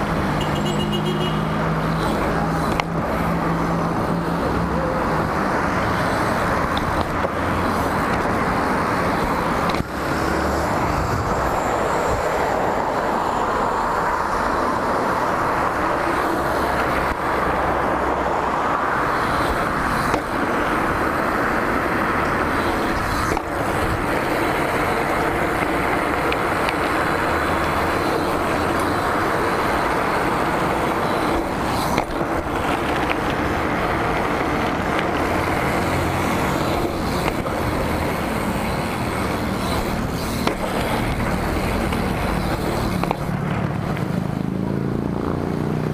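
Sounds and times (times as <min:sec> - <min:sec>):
tyres rolling on asphalt: 0:00.0 - 0:45.9.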